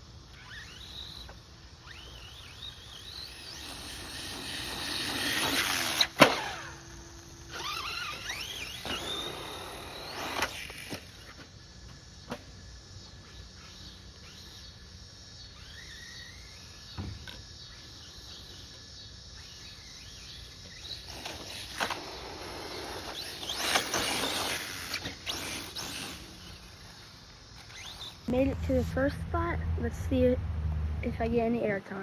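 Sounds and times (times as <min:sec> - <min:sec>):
outdoor background noise: 0:00.0 - 0:32.0.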